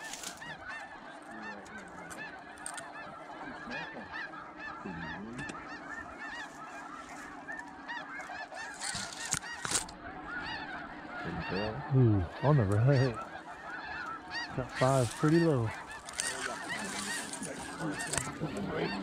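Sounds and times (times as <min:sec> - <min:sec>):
geese honking chorus: 0:00.0 - 0:19.0.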